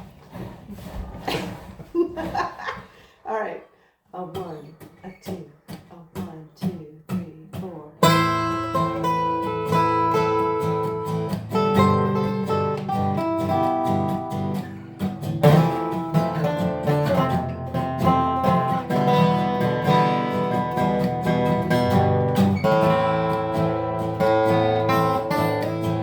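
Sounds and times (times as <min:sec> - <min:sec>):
acoustic guitar strumming: 0:04.2 - 0:26.0.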